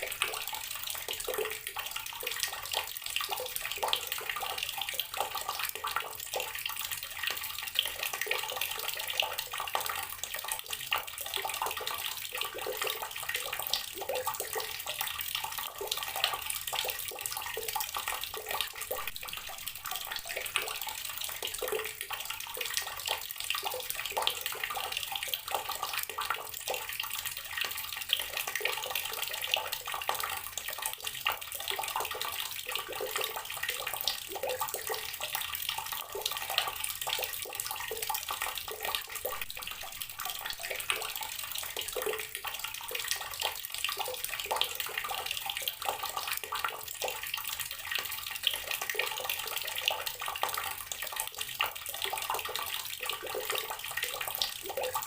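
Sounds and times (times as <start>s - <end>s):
outdoor water tap running: 0.0s - 55.0s.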